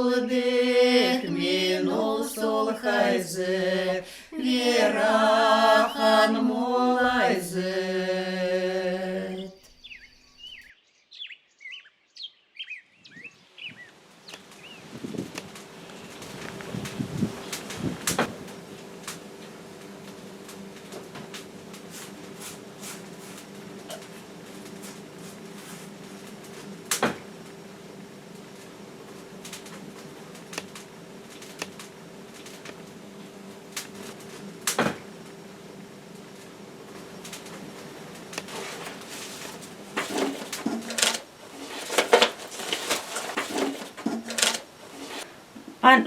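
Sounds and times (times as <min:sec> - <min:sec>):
steady hum: 0:00.0 - 0:10.6, 0:13.2 - 0:46.0.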